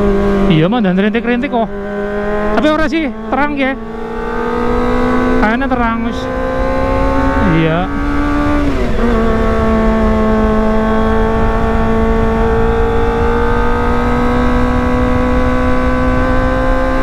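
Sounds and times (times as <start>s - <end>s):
motorcycle engine revving: 0.0s - 17.0s
wind rumble: 0.0s - 17.0s.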